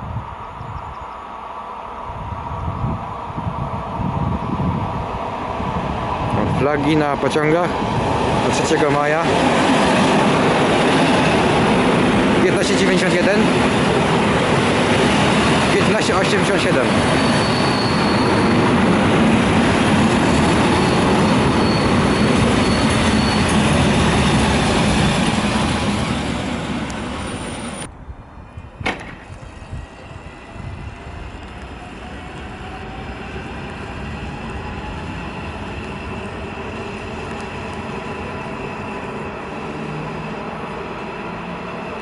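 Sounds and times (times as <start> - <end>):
thin high train whine: 0.0 - 42.0
train wheels on rails: 4.6 - 27.9, 28.5 - 42.0.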